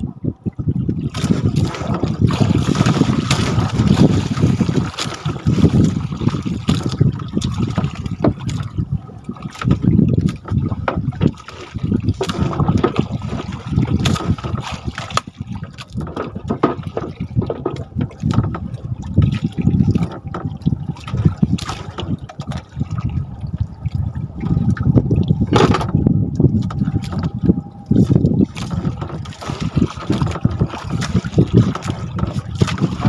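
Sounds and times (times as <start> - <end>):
water sloshing around boat: 0.0 - 33.0.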